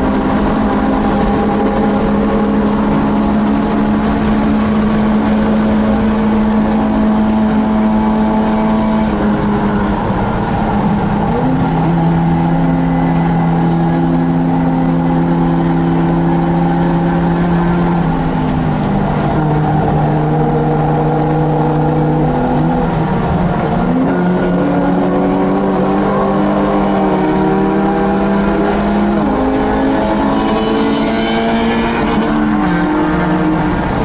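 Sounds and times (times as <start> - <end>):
race car engine from inside cabin: 0.0 - 34.0.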